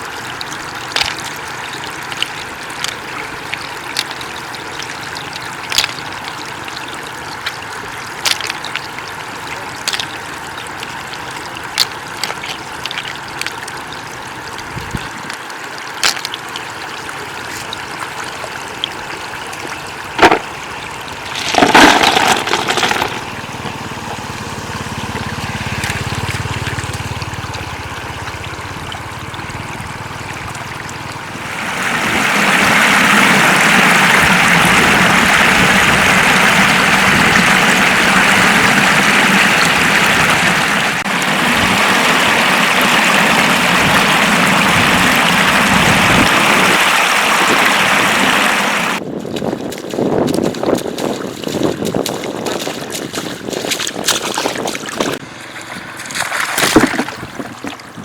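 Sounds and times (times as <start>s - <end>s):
water splashing: 0.0s - 58.0s
water trickling: 0.0s - 58.0s.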